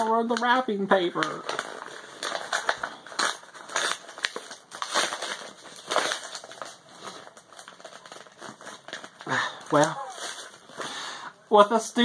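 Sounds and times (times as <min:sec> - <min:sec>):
wrapping paper crinkling and tearing: 0:00.0 - 0:11.2.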